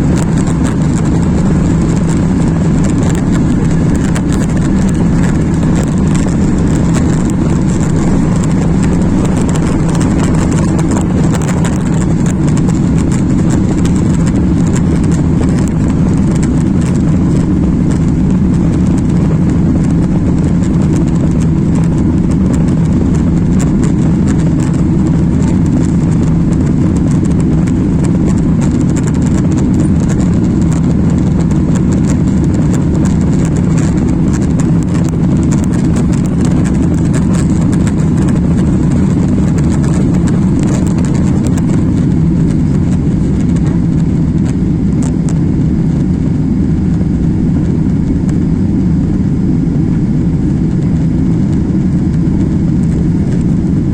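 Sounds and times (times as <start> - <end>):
jet engines roaring in cabin: 0.0 - 53.9
rushing air: 0.0 - 53.9.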